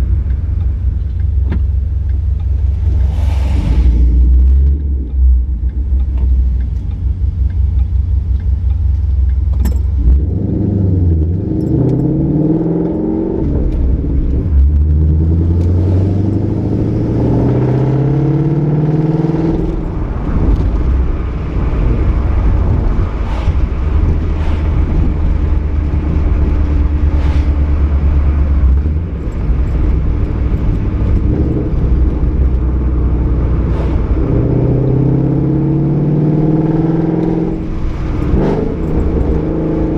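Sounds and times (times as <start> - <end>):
car engine rumbling and accelerating: 0.0 - 39.9.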